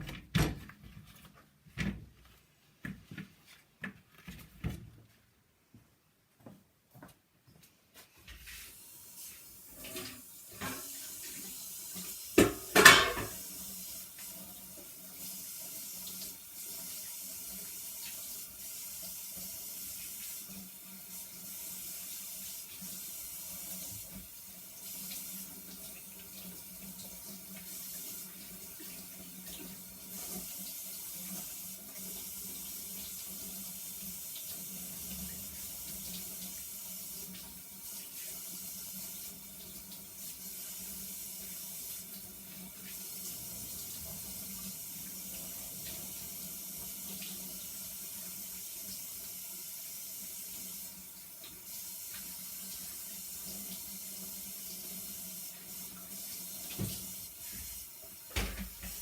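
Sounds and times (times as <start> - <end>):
kitchen tap running into sink: 8.7 - 59.0.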